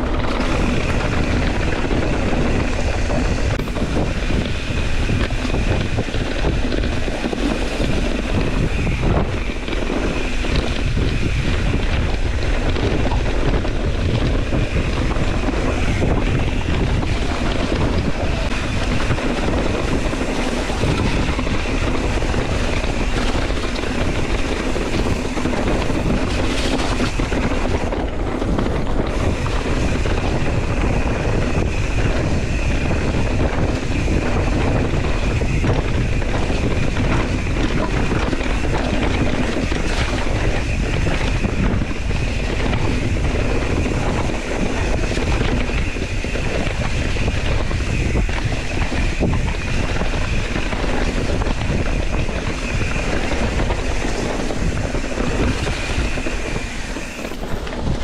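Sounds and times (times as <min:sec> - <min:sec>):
bike rattle: 0:00.0 - 0:58.0
wind on microphone: 0:00.0 - 0:58.0.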